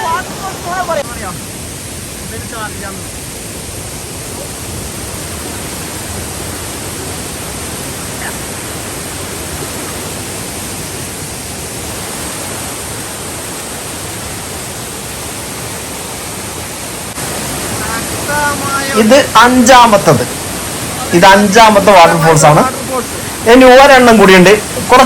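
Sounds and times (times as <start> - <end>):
waterfall rushing over rock: 0.0 - 25.0.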